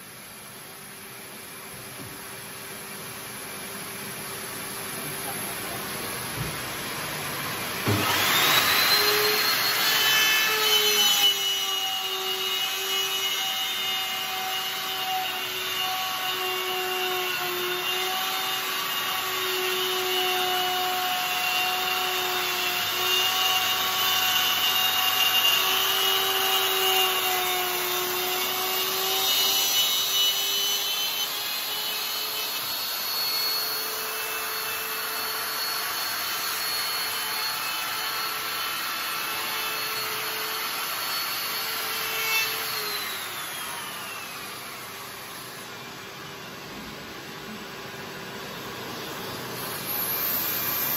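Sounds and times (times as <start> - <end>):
router motor whine cutting wood: 3.4 - 50.9.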